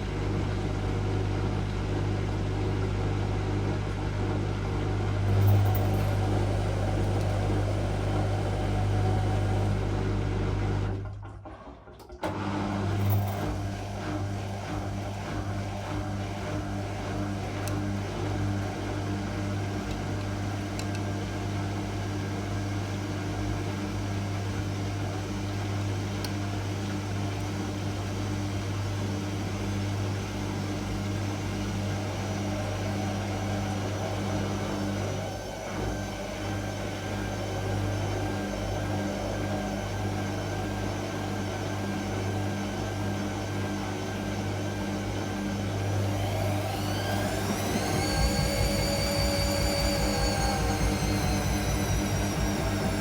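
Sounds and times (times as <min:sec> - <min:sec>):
washing machine motor hum: 0:00.0 - 0:11.6, 0:12.2 - 0:53.0.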